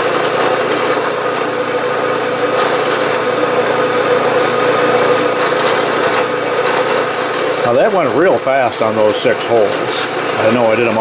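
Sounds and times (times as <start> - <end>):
drill boring into metal: 0.0 - 11.0
milling machine humming: 0.0 - 11.0.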